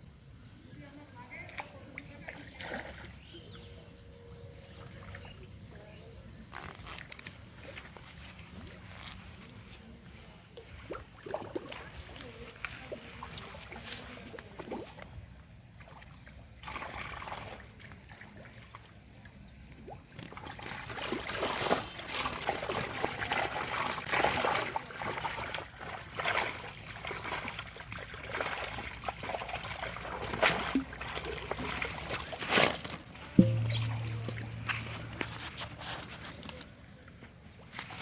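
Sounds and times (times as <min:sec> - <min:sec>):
water splashing and trickling: 0:01.2 - 0:03.8, 0:04.6 - 0:38.0.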